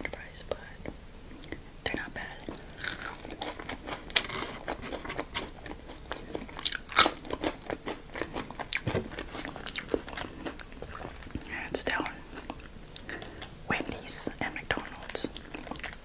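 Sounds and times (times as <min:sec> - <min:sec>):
crunching and chewing crisp food: 0:02.3 - 0:16.0.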